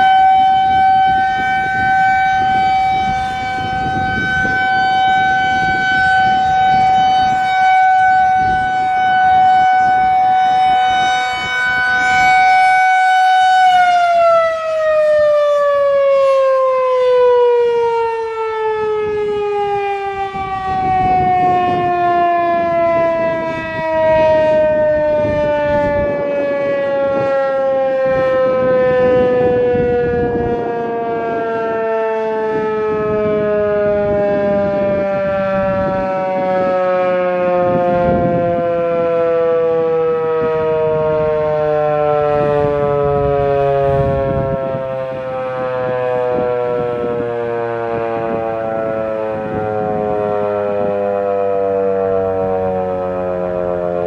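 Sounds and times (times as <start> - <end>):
warning siren: 0.0 - 54.0.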